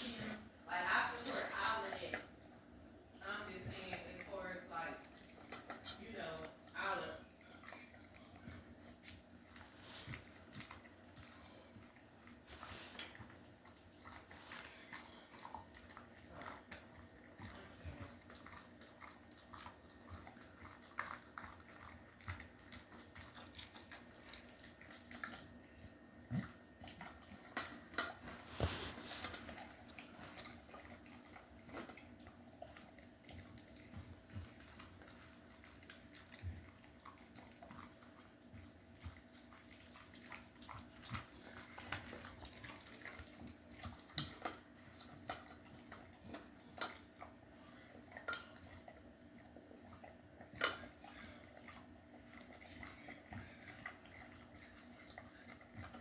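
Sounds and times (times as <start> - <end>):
low household hum: 0.0 - 56.0
pet chewing and licking: 0.0 - 56.0.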